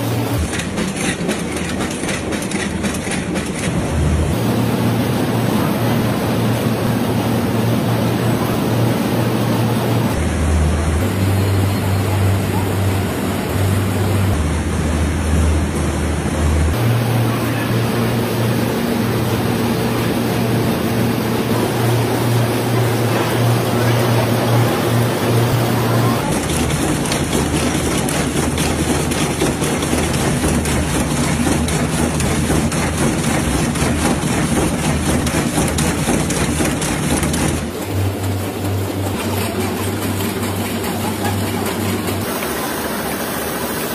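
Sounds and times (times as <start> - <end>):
low machine hum: 0.0 - 43.9
machine mechanical rushing noise: 0.0 - 43.9.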